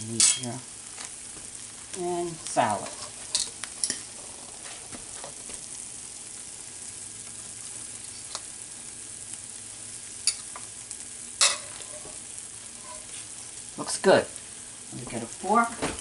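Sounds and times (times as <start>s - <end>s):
low sizzling hiss: 0.0s - 16.0s.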